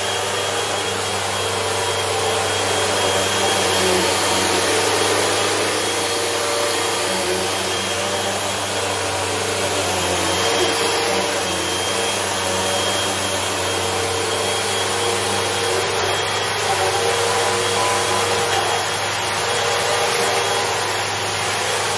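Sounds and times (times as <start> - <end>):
vacuum cleaner running with high whine: 0.0 - 21.9.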